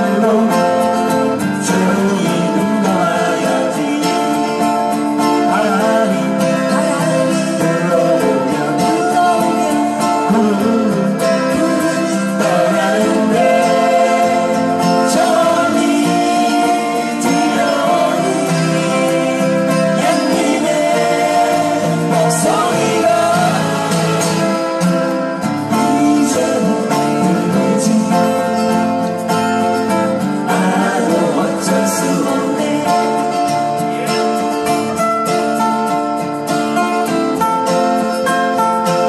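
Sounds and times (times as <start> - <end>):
acoustic guitars strumming: 0.0 - 39.0
harmonica melody: 6.0 - 39.0.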